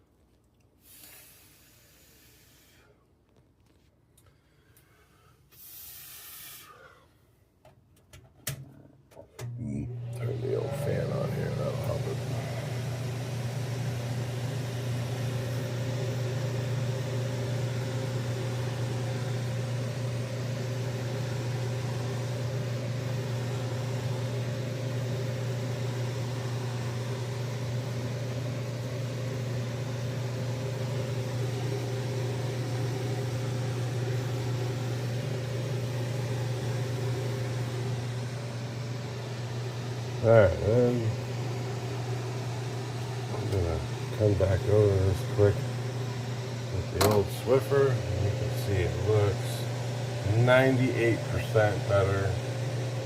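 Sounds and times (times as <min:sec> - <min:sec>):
electric fan humming: 0:00.0 - 0:53.0.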